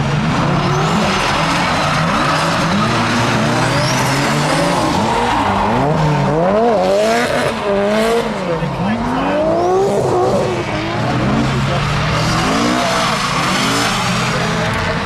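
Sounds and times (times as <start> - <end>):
car engine revving hard: 0.0 - 15.0
tyres skidding: 0.0 - 15.0.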